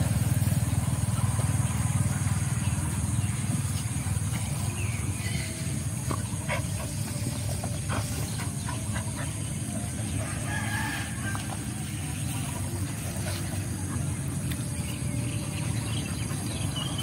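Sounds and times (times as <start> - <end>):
dogs digging in soil: 3.3 - 17.0.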